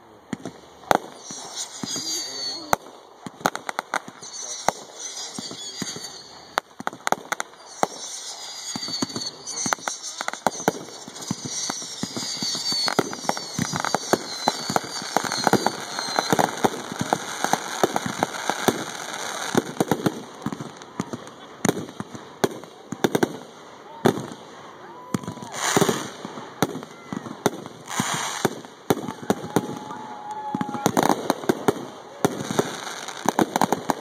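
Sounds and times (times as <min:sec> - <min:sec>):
fireworks bangs and crackling: 0:00.0 - 0:34.0
falling firework whistles: 0:00.4 - 0:23.3, 0:25.0 - 0:34.0.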